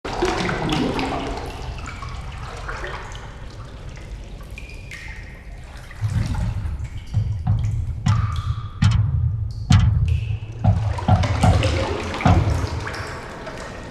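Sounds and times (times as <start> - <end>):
bubbling gurgling water: 0.1 - 13.9.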